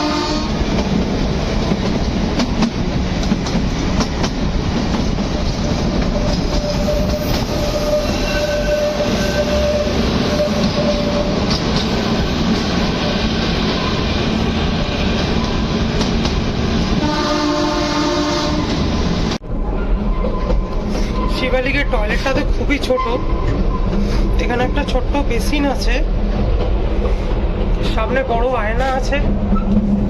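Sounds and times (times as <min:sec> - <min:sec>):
train rumble with wheel clatter: 0:00.0 - 0:30.0.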